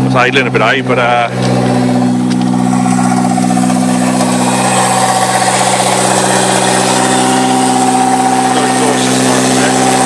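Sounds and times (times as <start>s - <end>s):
engine idling without exhaust: 0.0s - 10.0s.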